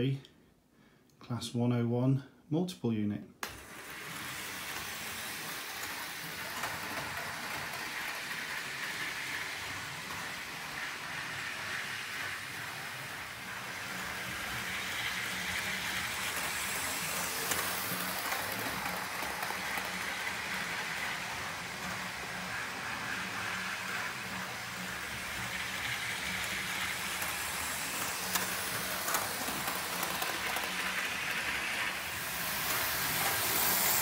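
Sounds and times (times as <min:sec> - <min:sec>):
whirr of small electric motors: 0:03.4 - 0:34.0.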